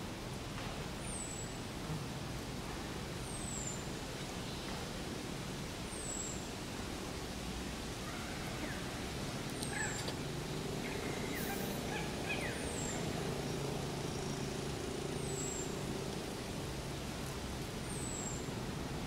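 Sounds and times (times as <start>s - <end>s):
steady forest hiss: 0.0s - 19.0s.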